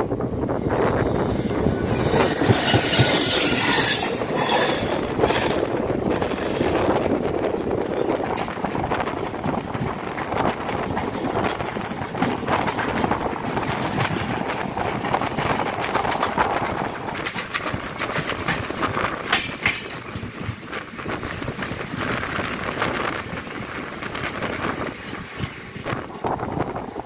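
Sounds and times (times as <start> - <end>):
train rumbling on rails: 0.0 - 27.0.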